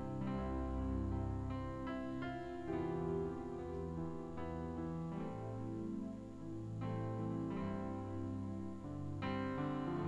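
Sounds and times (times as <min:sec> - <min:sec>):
soft piano chords on keyboard: 0:00.0 - 0:10.0.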